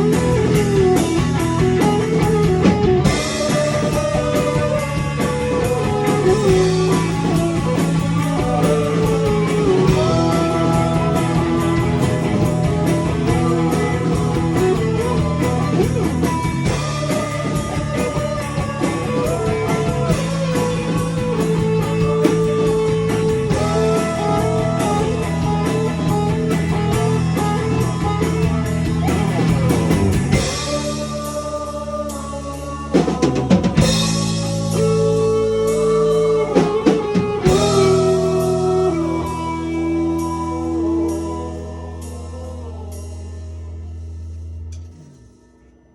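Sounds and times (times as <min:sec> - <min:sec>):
electric guitar lead melody: 0:00.0 - 0:32.9, 0:33.5 - 0:45.4
rock band playing: 0:00.0 - 0:45.3.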